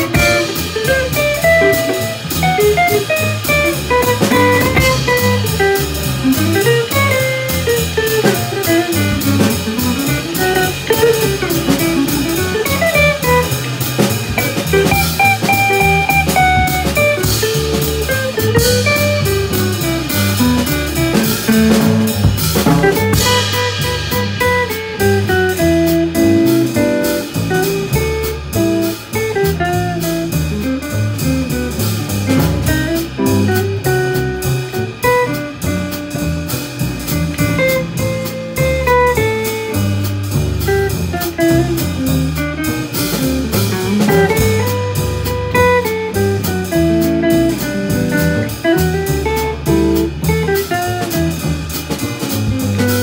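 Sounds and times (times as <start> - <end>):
acoustic guitar melody: 0.0 - 53.0
drum kit cymbals: 0.0 - 53.0
plucked double bass: 0.0 - 53.0.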